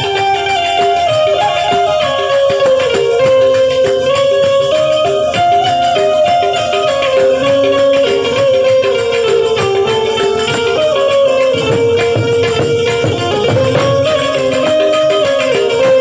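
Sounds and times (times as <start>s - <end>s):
hand percussion with jingling rattle: 0.0s - 16.0s
harmonium melody: 0.0s - 16.0s.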